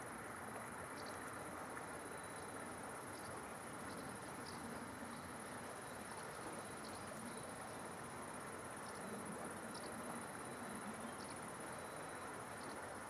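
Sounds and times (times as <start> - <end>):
crickets trilling: 0.1 - 13.0.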